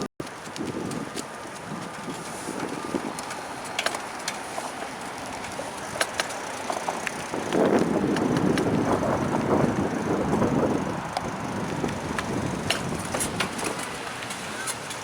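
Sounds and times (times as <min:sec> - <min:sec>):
bicycle tyre and road noise: 0:00.0 - 0:15.0
bike clicks and rattles: 0:00.2 - 0:15.0.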